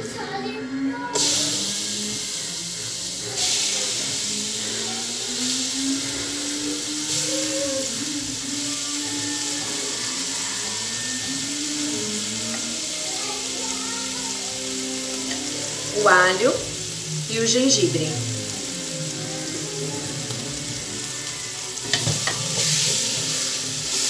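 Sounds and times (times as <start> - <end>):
meat sizzling in hot oil: 1.2 - 24.0.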